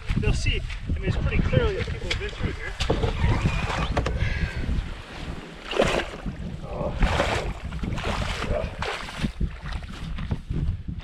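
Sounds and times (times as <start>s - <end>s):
wind rumbling on microphone: 0.0s - 11.0s
water swishing and splashing: 1.0s - 10.6s.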